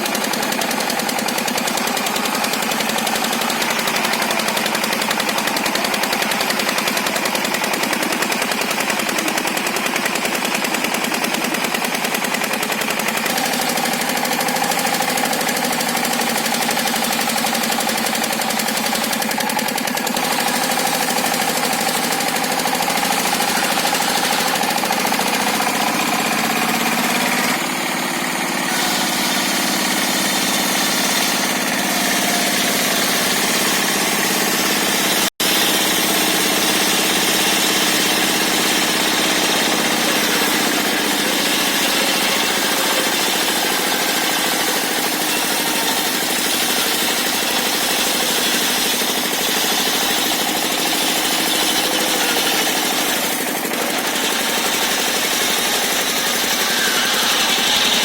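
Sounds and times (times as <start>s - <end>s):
circular saw cutting timber: 0.0s - 58.0s.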